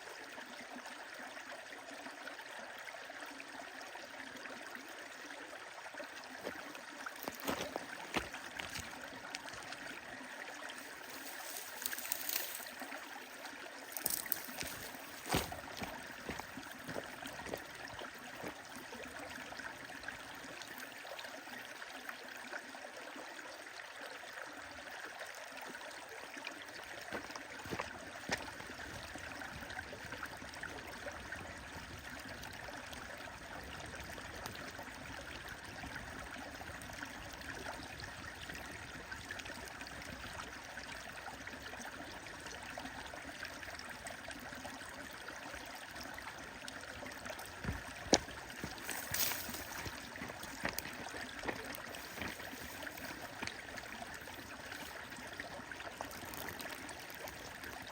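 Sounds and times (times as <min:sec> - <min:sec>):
stream running: 0:00.0 - 0:57.9.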